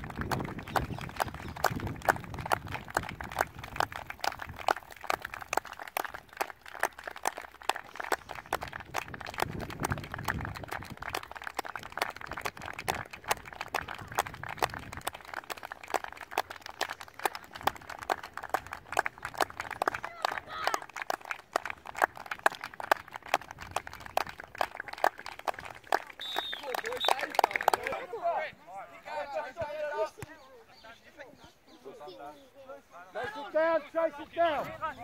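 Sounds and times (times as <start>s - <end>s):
group applauding: 0.0s - 28.5s.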